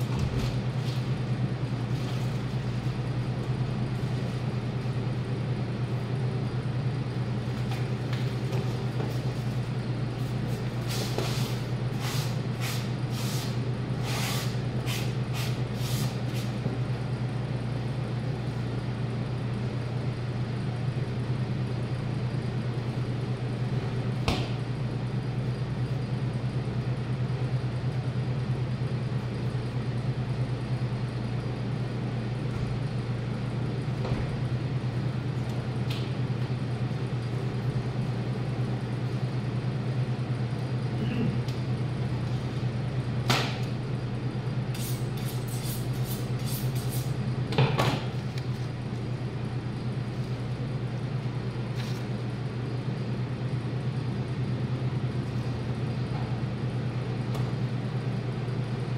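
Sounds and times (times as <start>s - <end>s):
low machine hum: 0.0s - 58.9s.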